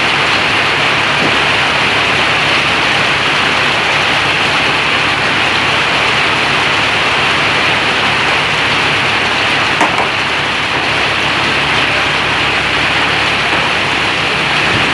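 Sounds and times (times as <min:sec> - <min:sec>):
heavy hail falling: 0:00.0 - 0:14.9.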